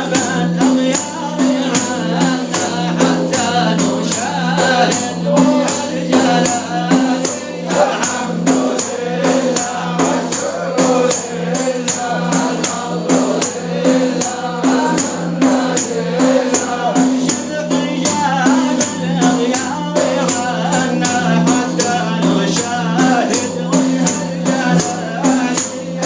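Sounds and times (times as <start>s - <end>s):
frame drums with jingles: 0.0s - 26.0s
voices chanting: 0.0s - 26.0s.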